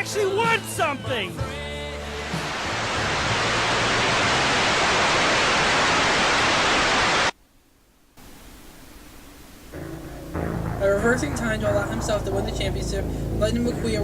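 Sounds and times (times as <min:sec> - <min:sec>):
faint hiss: 0:01.1 - 0:13.5
loud static hiss: 0:01.2 - 0:14.0.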